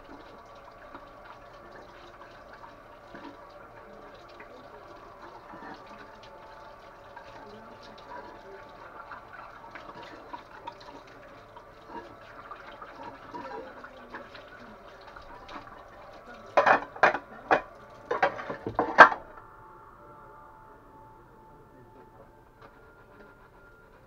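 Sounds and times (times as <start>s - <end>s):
faint background noise: 0.0s - 24.0s.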